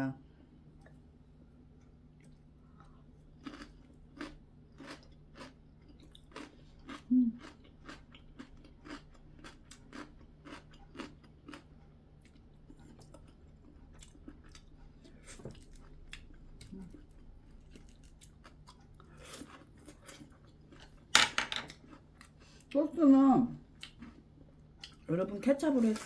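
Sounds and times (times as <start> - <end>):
chewing food: 1.7 - 22.8, 23.7 - 25.2.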